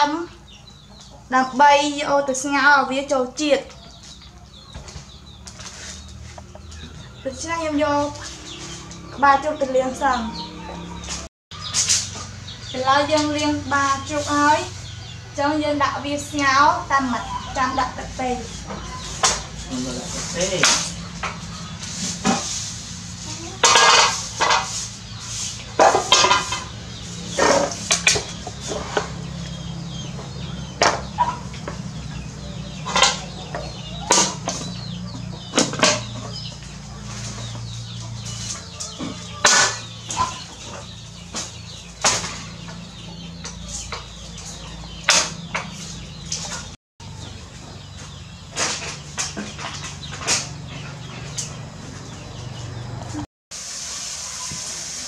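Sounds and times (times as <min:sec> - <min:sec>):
chickens clucking: 0:00.0 - 0:53.3.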